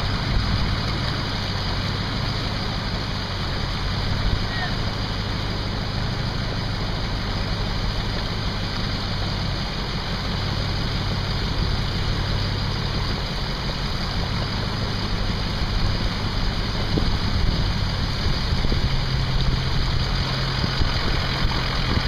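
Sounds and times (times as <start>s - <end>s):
constant rushing noise: 0.0s - 22.0s
vehicle engine humming: 0.0s - 22.0s.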